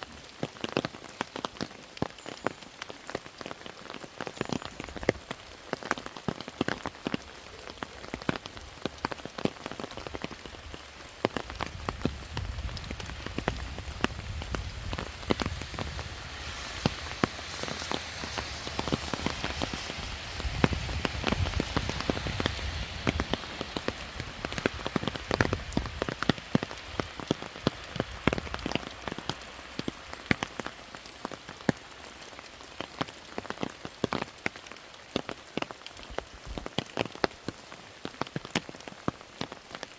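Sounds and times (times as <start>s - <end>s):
rain hiss: 0.0s - 39.9s
raindrops striking hard surfaces: 0.0s - 39.9s.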